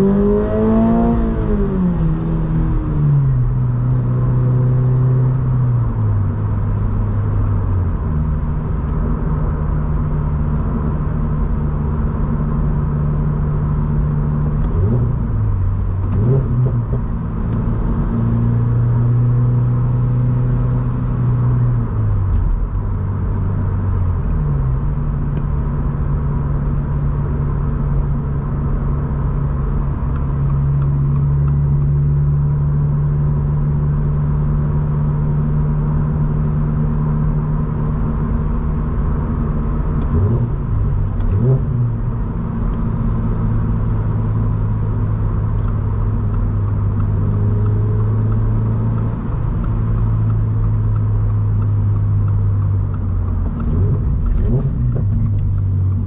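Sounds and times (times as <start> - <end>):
car engine droning in cabin: 0.0 - 56.0.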